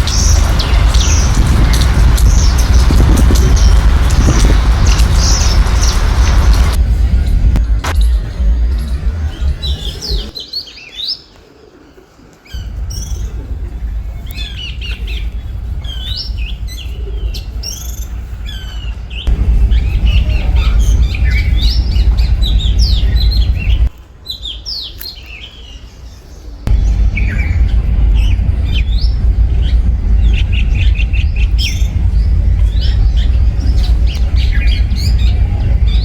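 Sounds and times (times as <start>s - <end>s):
loud low rumble: 0.0s - 10.4s, 12.6s - 24.0s, 26.7s - 36.0s
small birds chirping: 0.0s - 11.4s, 12.5s - 36.0s.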